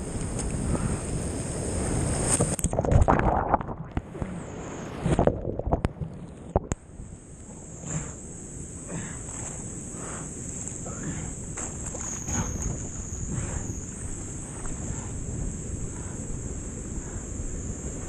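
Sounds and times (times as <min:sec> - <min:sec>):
surf churning and splashing: 0:00.0 - 0:18.0.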